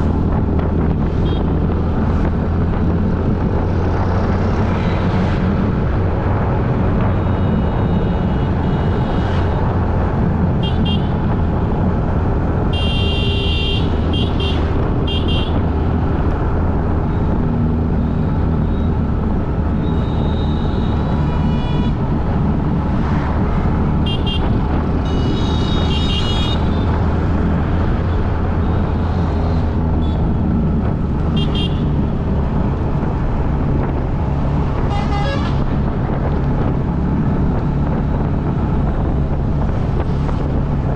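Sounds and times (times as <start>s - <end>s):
low rumble of road traffic: 0.0s - 40.9s.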